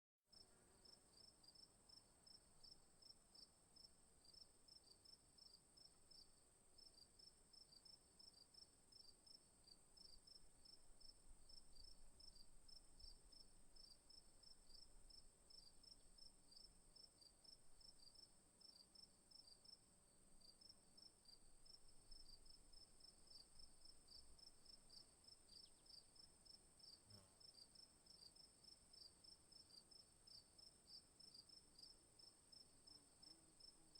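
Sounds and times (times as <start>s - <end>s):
crickets chirping: 0.8s - 19.8s, 20.4s - 33.9s.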